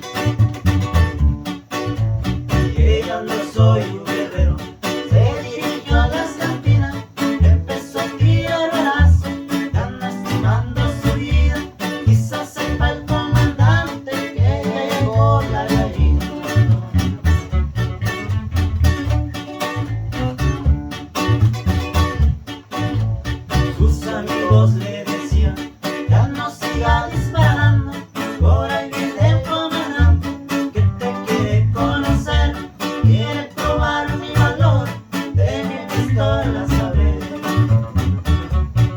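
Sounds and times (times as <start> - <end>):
plucked guitar music with beat: 0.0 - 38.9.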